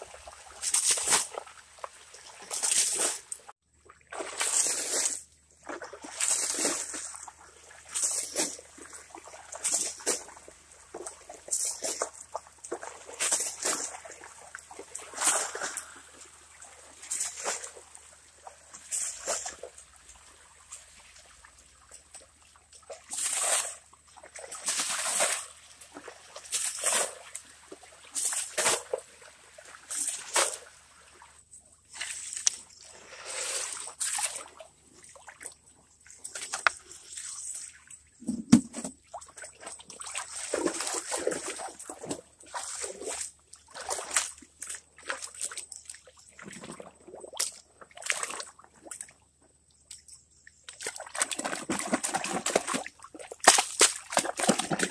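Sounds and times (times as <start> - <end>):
muddy water splashing: 0.0 - 54.9.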